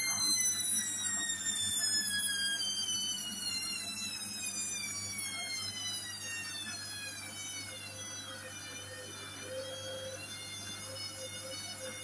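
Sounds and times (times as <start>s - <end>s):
washing machine motor whine: 0.0s - 12.0s.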